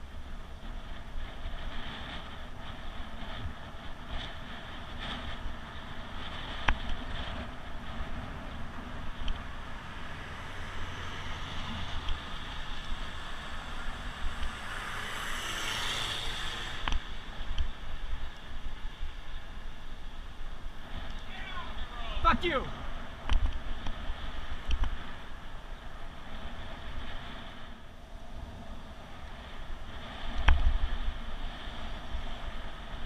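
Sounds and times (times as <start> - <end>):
road noise: 0.0 - 33.0
wind rushing over microphone: 0.0 - 33.0.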